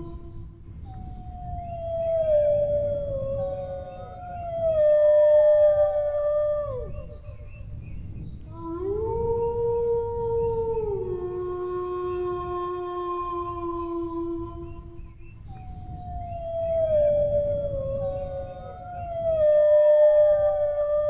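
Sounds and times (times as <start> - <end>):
dogs howling: 0.8 - 7.5, 8.5 - 21.0.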